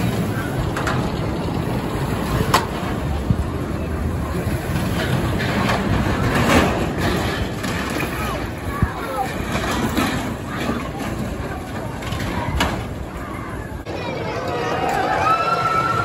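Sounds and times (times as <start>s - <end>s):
roller coaster clacks: 0.0s - 16.0s
roller coaster wheels rumbling: 0.0s - 16.0s.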